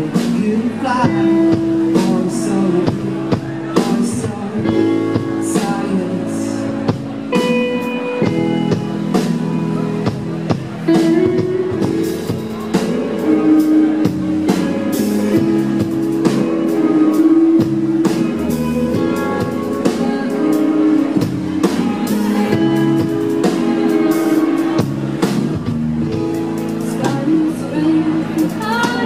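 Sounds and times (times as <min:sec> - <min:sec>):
bass guitar: 0:00.0 - 0:29.0
drum kit beat: 0:00.0 - 0:29.0
electric guitar sustained notes: 0:00.0 - 0:29.0.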